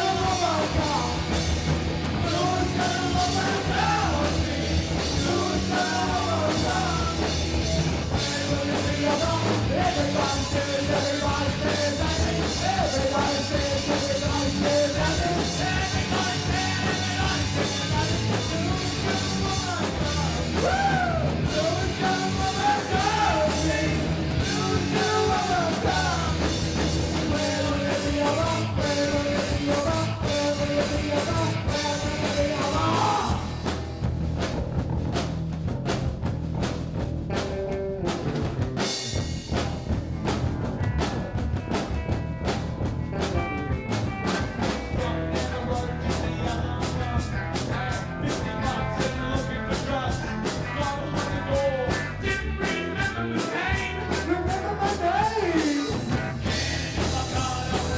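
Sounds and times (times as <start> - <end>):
lead vocal singing: 0.0 - 1.4, 2.1 - 33.8, 44.6 - 57.9
rock band playing live: 0.0 - 57.9.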